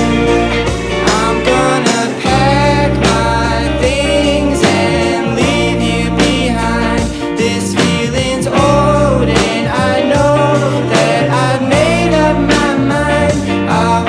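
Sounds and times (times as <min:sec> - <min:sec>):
bass: 0:00.0 - 0:14.0
guitar: 0:00.0 - 0:14.0
person singing: 0:00.0 - 0:14.0
steady drum beat: 0:00.0 - 0:14.0.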